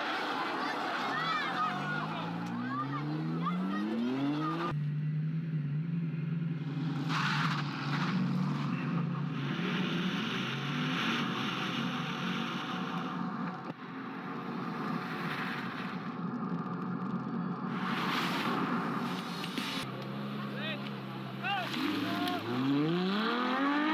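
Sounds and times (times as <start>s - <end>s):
car driving at speed: 0.0s - 23.9s
road and wind noise: 0.0s - 23.9s.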